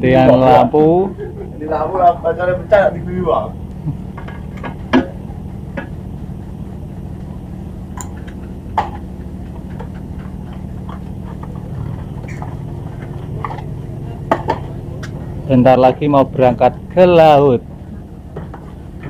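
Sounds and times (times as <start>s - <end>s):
boat engine hum: 0.0s - 19.0s.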